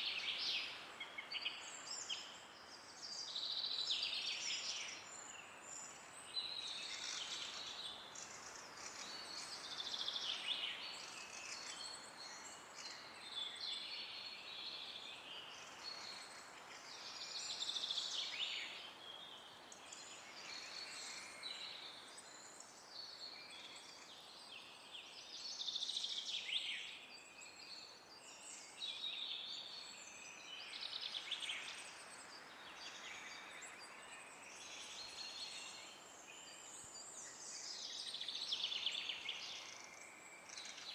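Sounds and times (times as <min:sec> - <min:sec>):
small birds chirping and singing: 0:00.0 - 0:40.9.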